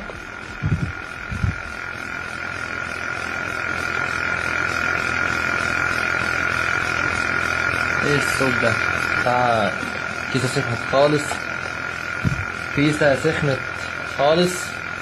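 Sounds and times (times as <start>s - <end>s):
buzzing hiss: 0.0s - 15.0s
computer case high-pitched whine: 0.0s - 15.0s.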